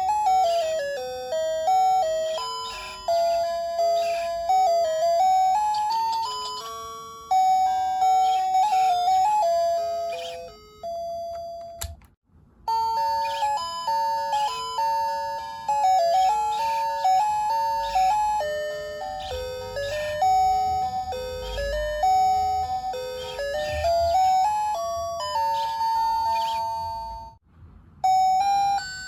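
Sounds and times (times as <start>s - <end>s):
alarm clock melody chime: 0.0s - 11.9s, 12.7s - 27.4s, 28.0s - 29.0s.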